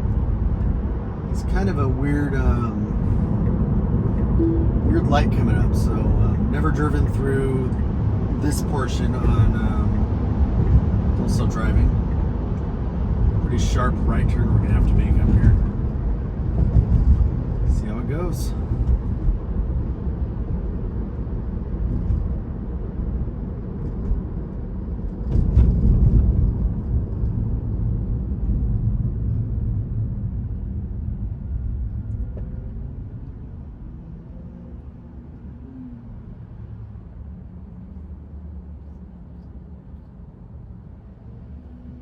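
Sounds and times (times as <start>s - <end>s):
road and tyre rumble: 0.0s - 42.0s.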